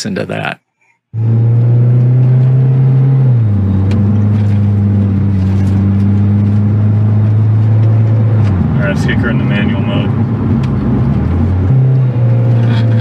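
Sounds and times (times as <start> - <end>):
car engine drone from cabin: 1.2 - 13.0.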